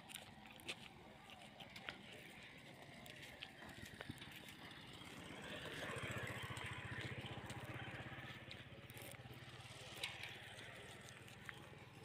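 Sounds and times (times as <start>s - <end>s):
motorcycle engine passing by: 2.4s - 12.0s.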